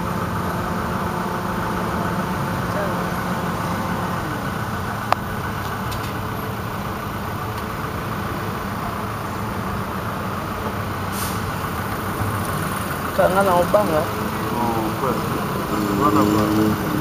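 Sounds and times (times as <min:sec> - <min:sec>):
vehicle engine and traffic: 0:00.0 - 0:17.0.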